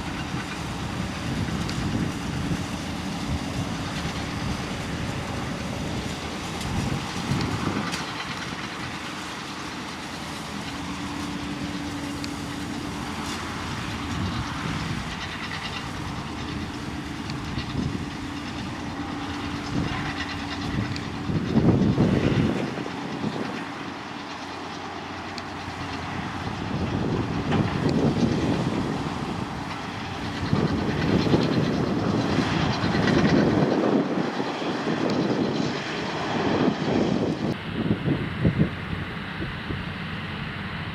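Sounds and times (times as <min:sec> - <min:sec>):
tractor engine drone: 0:00.0 - 0:40.9.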